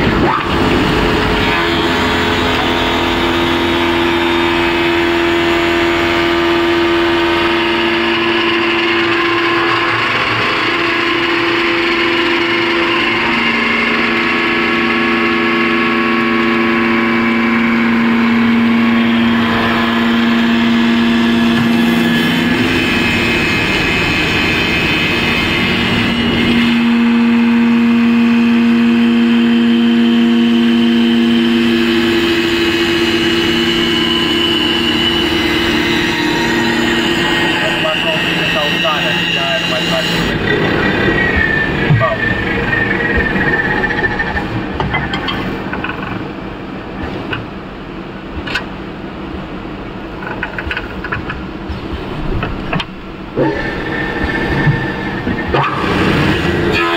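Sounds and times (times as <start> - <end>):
cutter cutting wood: 0.0 - 44.7, 53.4 - 56.9
wood lathe humming: 0.0 - 45.8, 53.0 - 56.9.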